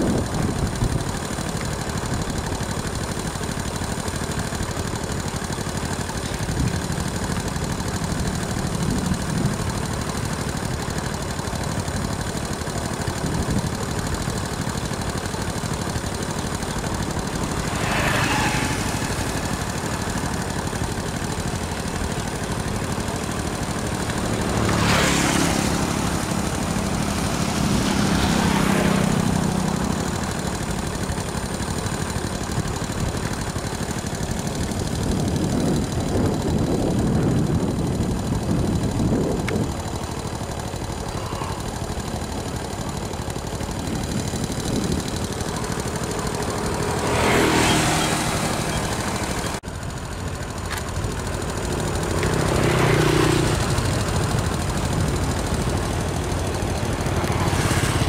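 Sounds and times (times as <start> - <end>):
motorbikes passing: 0.0 - 58.0
steady engine rumble: 0.0 - 58.0.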